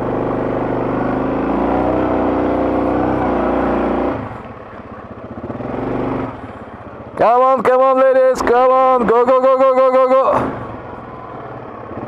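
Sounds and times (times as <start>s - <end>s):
quad bike engine revving: 0.0s - 12.0s.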